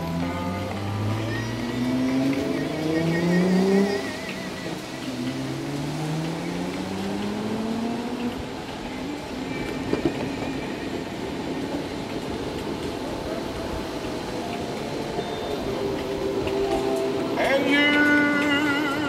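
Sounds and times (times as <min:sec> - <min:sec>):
wheel and wind noise: 0:00.0 - 0:19.0.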